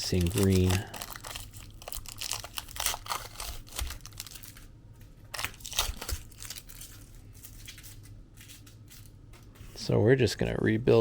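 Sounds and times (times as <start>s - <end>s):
plastic wrapping crackling: 0.0s - 9.2s.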